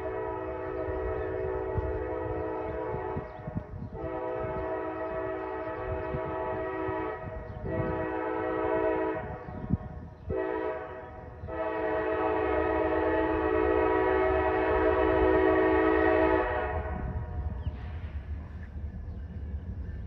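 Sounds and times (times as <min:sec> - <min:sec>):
locomotive air horn blasts: 0:00.0 - 0:09.7, 0:10.3 - 0:17.4
low engine rumble: 0:00.0 - 0:20.0.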